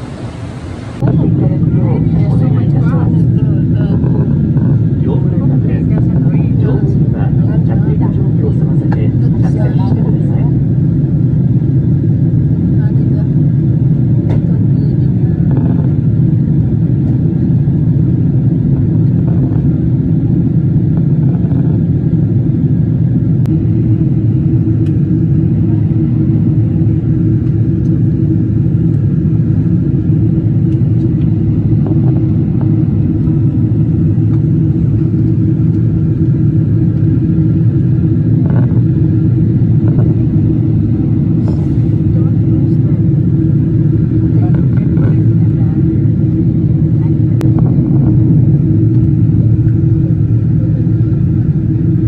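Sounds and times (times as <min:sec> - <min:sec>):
jet airliner cabin noise: 0:00.0 - 0:52.0.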